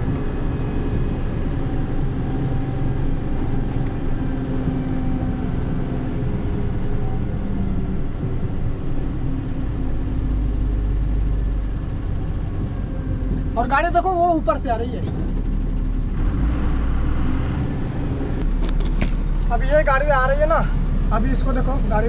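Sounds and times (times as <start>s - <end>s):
deep low rumble: 0.0s - 22.0s
truck diesel engine running: 0.0s - 22.0s.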